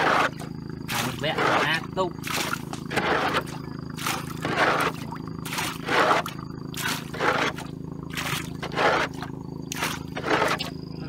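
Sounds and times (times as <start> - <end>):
water scooped and splashing: 0.0 - 10.6
steady low hum: 0.0 - 11.0.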